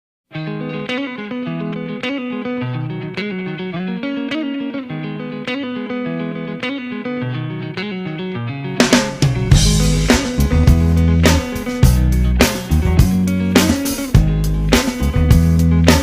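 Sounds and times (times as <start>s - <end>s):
electric guitar riff: 0.3s - 16.0s.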